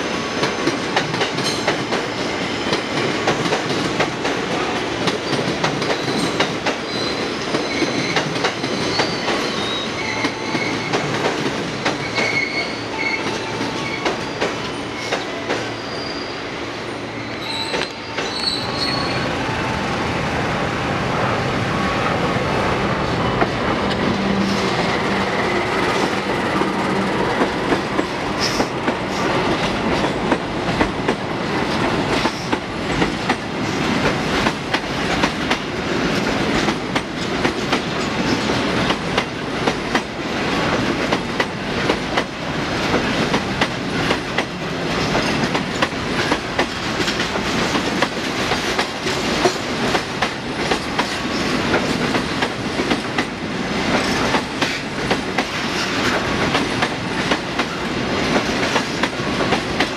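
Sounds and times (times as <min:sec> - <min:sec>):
train wheels clattering: 0:00.0 - 0:16.2, 0:23.4 - 0:59.9
train rolling noise: 0:00.0 - 0:59.9.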